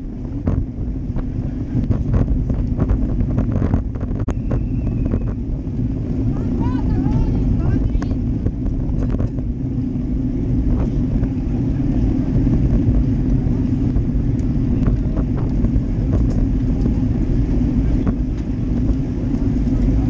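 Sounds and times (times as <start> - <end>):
bicycle tyres on asphalt: 0.0 - 20.0
wind rumble: 0.0 - 20.0.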